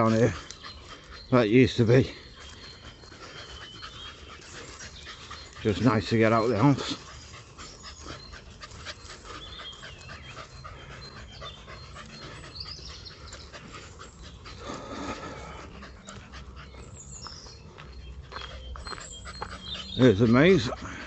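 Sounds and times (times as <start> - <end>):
dogs panting: 0.0 - 21.0.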